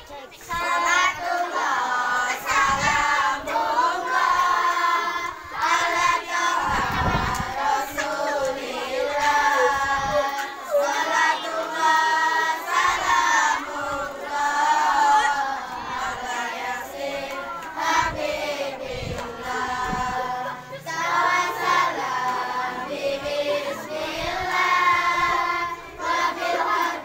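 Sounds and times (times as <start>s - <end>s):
girls singing together: 0.0s - 27.0s.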